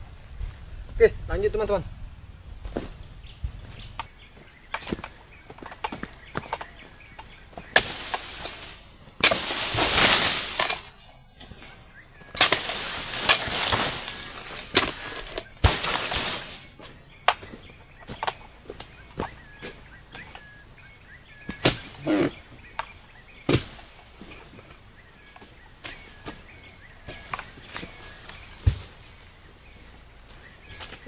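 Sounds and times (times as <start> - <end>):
palm fronds rustling and falling: 2.6 - 31.0.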